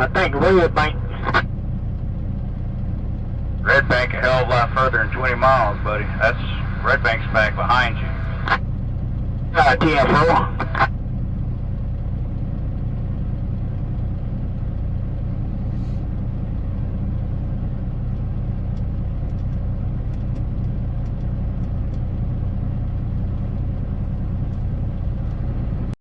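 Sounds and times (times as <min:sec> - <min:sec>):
diesel truck engine droning: 0:00.0 - 0:26.0.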